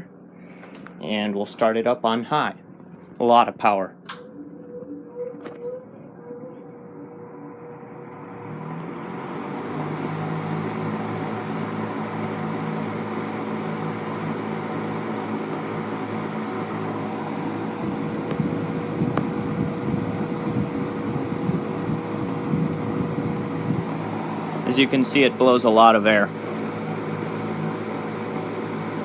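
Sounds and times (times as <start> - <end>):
fan air rushing: 0.0 - 29.0
fan motor hum: 0.0 - 29.0.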